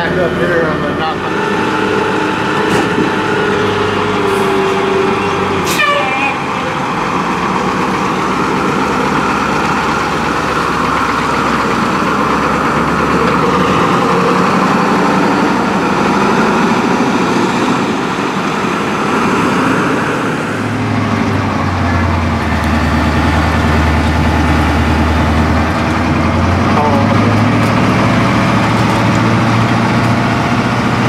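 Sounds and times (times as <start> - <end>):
garbage truck engine running: 0.0 - 31.0.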